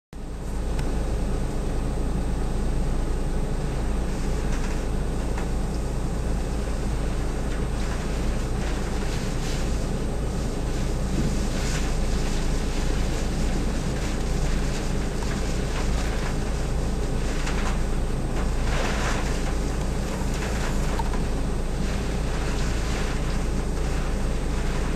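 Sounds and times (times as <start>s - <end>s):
strong wind buffeting microphone: 0.3s - 24.9s.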